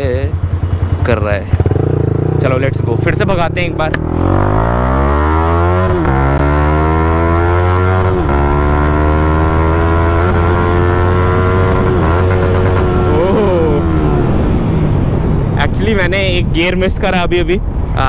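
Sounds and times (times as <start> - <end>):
motorcycle engine accelerating hard: 0.0 - 15.6.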